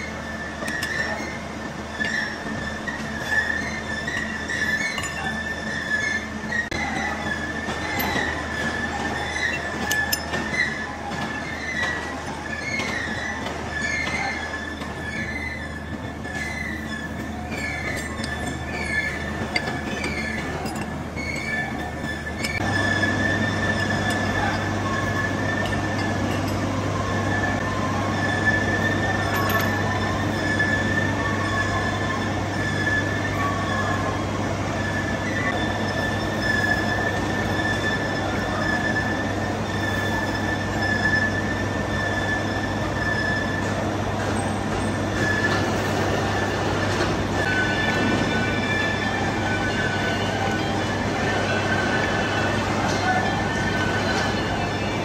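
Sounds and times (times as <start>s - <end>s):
lathe tool whining on steel: 0.0s - 55.0s
machine running hum: 0.0s - 55.0s.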